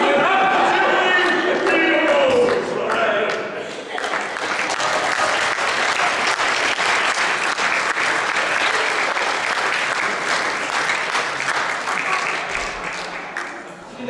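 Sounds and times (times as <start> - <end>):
audience applauding: 1.0 - 13.8.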